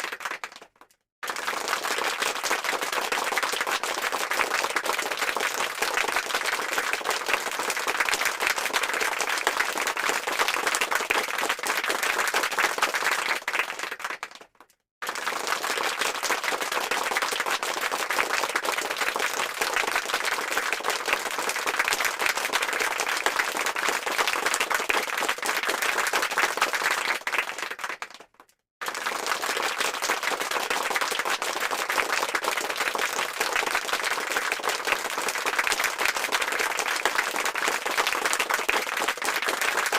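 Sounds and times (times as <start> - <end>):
many hands clapping: 0.0 - 39.9.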